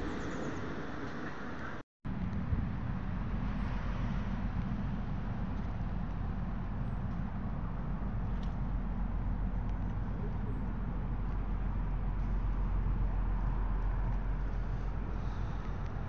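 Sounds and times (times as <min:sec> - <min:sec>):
low fluttering rumble: 0:00.0 - 0:16.0.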